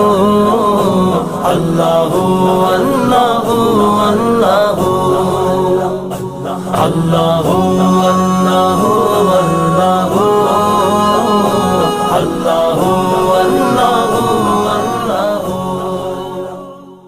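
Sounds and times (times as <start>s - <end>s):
voices chanting and humming: 0.0s - 17.0s.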